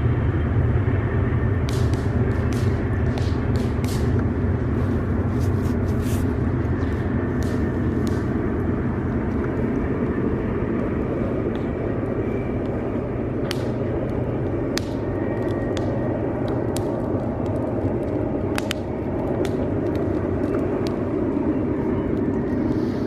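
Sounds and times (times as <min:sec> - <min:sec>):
diesel engines rumbling: 0:00.0 - 0:23.0
campfire crackling and popping: 0:01.6 - 0:23.0.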